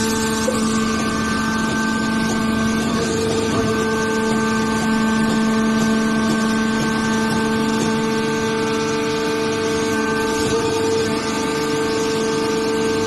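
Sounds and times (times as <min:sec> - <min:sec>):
electric motor and pump humming: 0:00.0 - 0:13.0.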